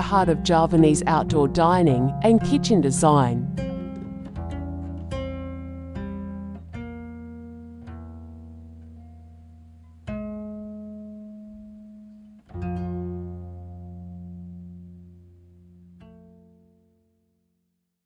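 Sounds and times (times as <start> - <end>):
plucked string instrument music: 0.0 - 17.0.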